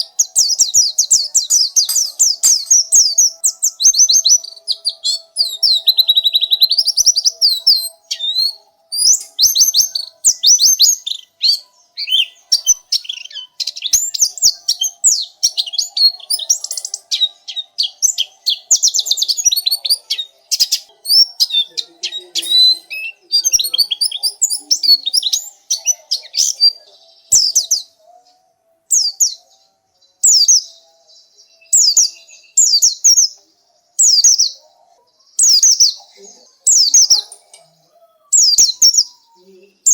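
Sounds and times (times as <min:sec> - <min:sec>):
bird twittering chirps and trills: 0:00.0 - 0:39.9.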